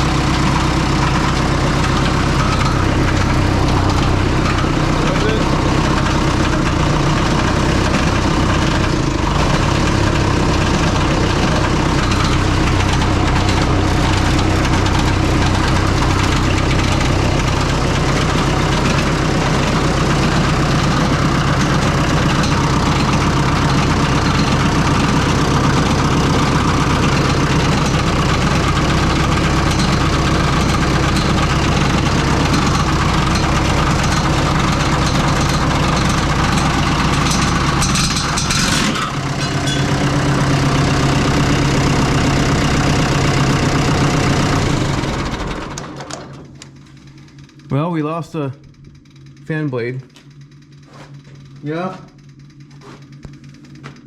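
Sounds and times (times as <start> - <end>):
diesel tractor engine idling: 0.0 - 54.0
fan blade ticking on shroud: 0.0 - 54.0.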